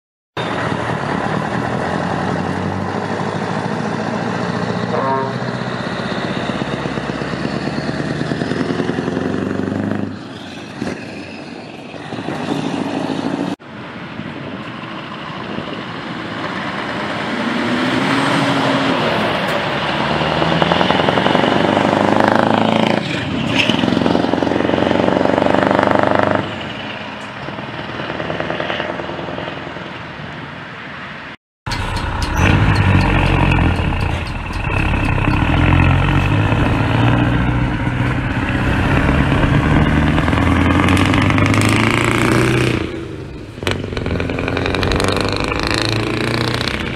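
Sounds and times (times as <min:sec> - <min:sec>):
truck engines accelerating: 0:00.4 - 0:46.9.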